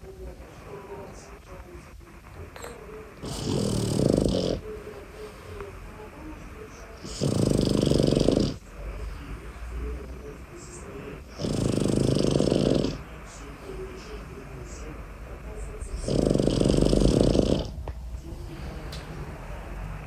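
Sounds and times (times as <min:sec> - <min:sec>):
puppy snoring: 0:00.0 - 0:20.0
soft breathing: 0:00.0 - 0:20.0.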